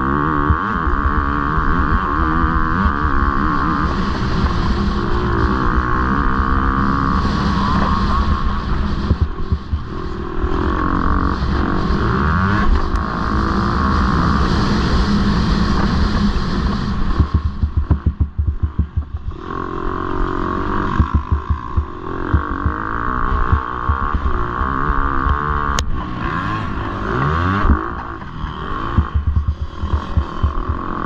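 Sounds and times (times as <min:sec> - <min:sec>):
motocross bike engine revving: 0:00.0 - 0:31.0.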